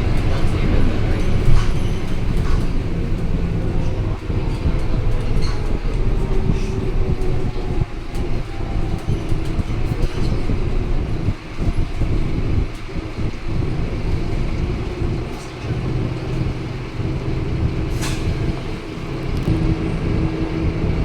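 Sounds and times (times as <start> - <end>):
rattles and clicks: 0.0 - 19.6
bus engine droning: 0.0 - 21.0.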